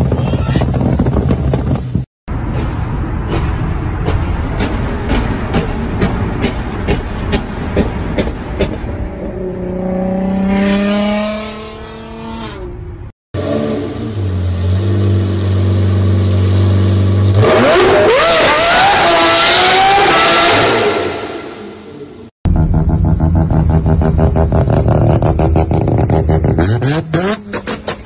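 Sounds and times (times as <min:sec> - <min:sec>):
car revving and pulling away: 0:03.1 - 0:28.0
car engine revving: 0:04.6 - 0:28.0.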